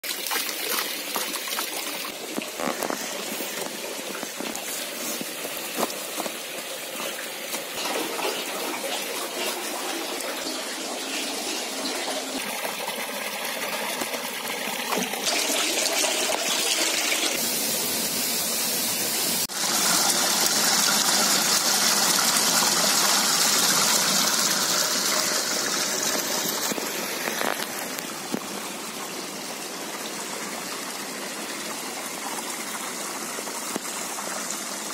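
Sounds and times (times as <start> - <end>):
hose pouring into a tub: 0.0 - 28.4
water gushing into a pond: 0.0 - 34.9.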